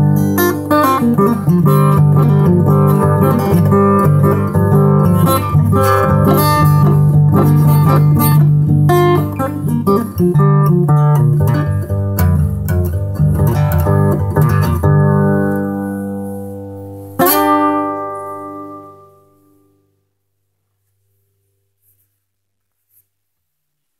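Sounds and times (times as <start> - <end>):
blues acoustic guitar: 0.0 - 19.8.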